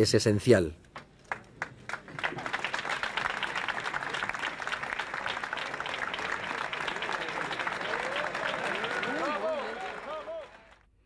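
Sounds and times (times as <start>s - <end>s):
crowd applauding: 1.1s - 10.9s.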